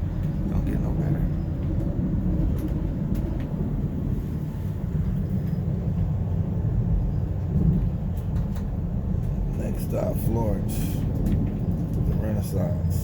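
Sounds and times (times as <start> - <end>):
high-speed train rumble: 0.0 - 13.0.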